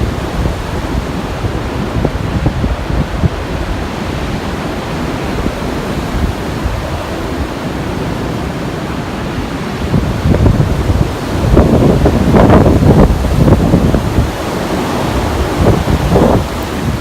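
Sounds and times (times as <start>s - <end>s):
strong wind rushing: 0.0s - 17.0s.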